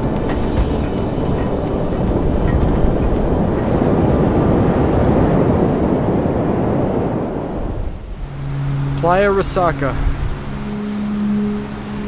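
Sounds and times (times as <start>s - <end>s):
waves breaking on a sandy beach: 0.0s - 12.0s.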